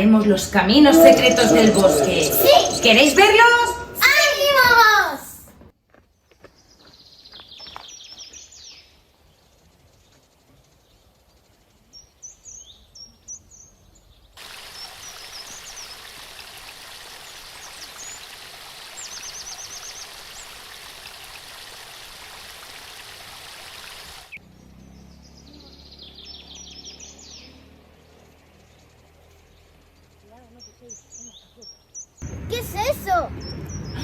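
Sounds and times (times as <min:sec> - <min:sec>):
small birds chirping: 0:00.0 - 0:05.0, 0:06.5 - 0:16.4, 0:17.0 - 0:20.8, 0:23.8 - 0:34.0.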